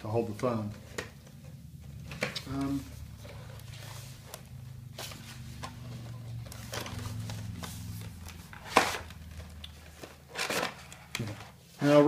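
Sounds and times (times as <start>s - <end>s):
cardboard and plastic rustling: 0.0s - 12.0s
low steady hum: 0.0s - 12.0s.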